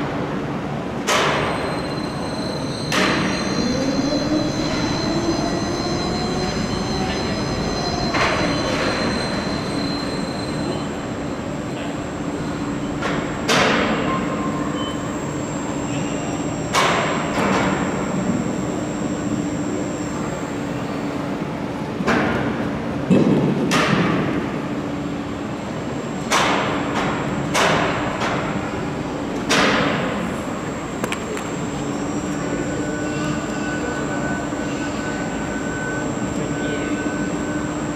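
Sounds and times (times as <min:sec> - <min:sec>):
workshop hum: 0:00.0 - 0:37.9
crane machine whine: 0:00.1 - 0:22.0, 0:24.6 - 0:37.9.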